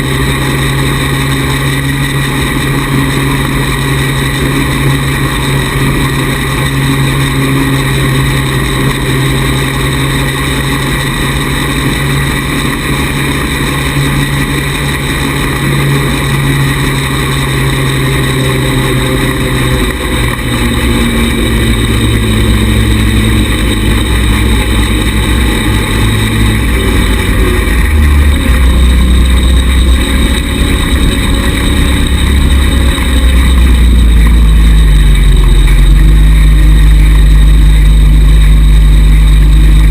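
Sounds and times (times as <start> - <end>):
small buggy engine running: 0.0 - 39.9.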